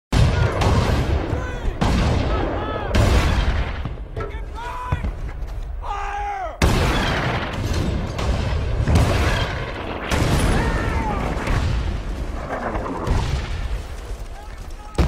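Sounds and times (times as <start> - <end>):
artillery shells exploding: 0.1 - 4.2, 6.6 - 15.0.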